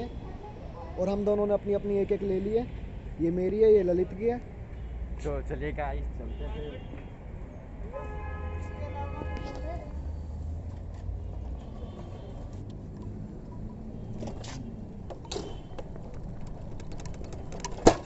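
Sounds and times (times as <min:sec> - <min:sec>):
low rumble of road traffic: 0:00.0 - 0:18.0.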